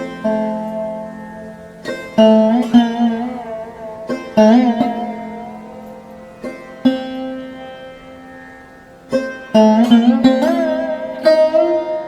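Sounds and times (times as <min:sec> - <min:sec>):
plucked string instrument notes: 0:00.0 - 0:12.0.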